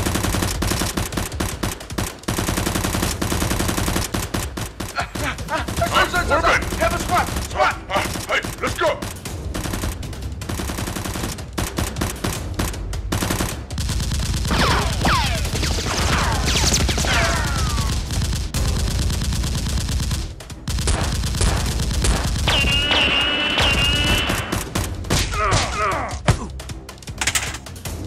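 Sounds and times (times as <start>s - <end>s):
rapid automatic gunfire: 0.0s - 25.1s.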